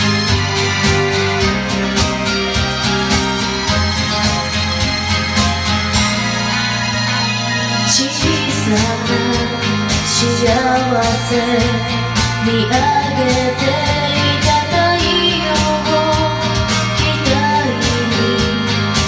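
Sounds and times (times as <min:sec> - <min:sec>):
karaoke pop backing music: 0:00.0 - 0:19.0.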